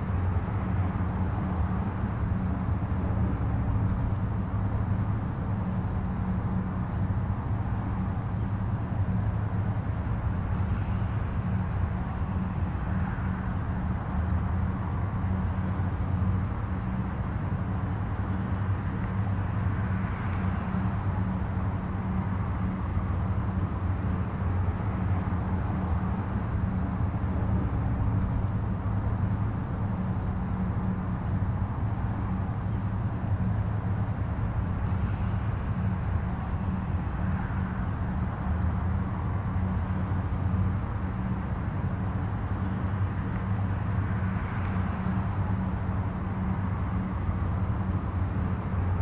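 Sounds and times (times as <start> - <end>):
distant highway traffic rumble: 0.0 - 49.0.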